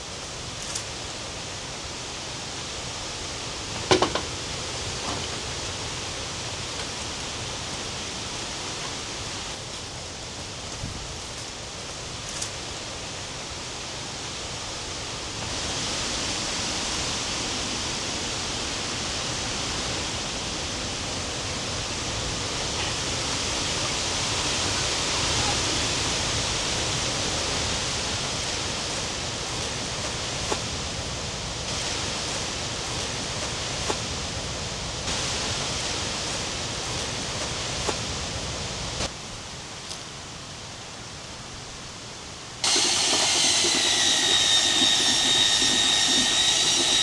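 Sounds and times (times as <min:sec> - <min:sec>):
steady rushing hiss: 0:00.0 - 0:47.0.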